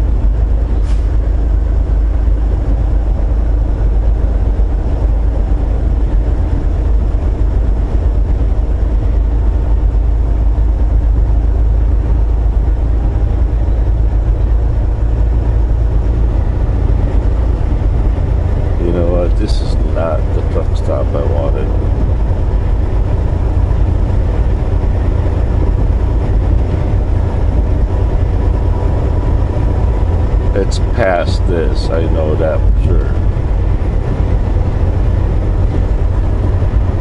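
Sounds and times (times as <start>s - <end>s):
truck engine and road drone: 0.0s - 37.0s.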